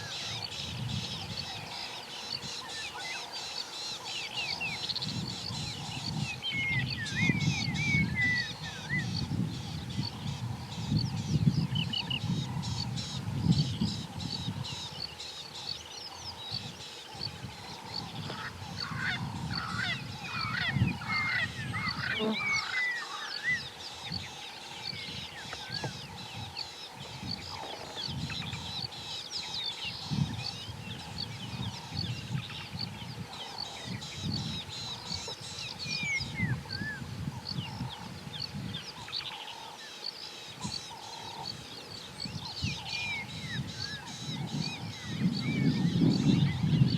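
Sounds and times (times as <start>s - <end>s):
animals calling: 0.0s - 46.9s
small birds chirping and trilling: 0.0s - 46.9s.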